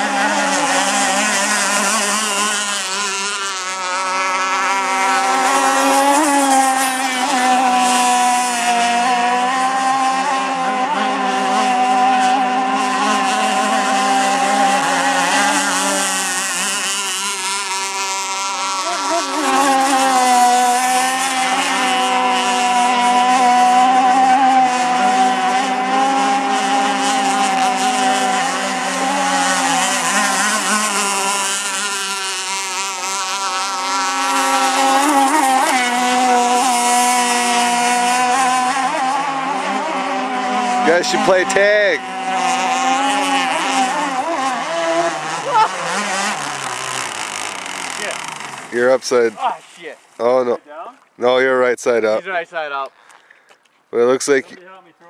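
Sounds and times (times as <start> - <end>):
rc boat motors whining: 0.0 - 55.0.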